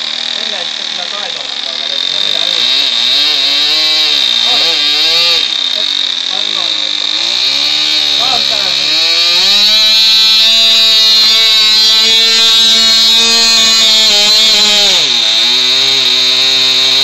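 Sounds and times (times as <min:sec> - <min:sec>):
model airplane engine running: 0:00.0 - 0:17.0.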